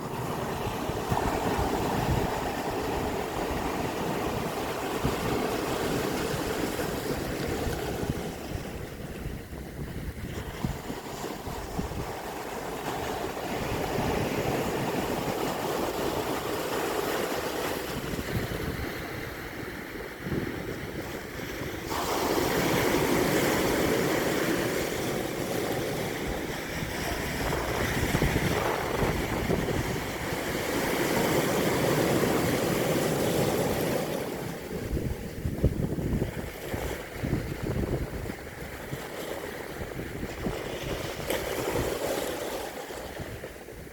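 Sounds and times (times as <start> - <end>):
wind gusting on microphone: 0.0 - 42.2
sea surf breaking on beach: 0.0 - 43.9.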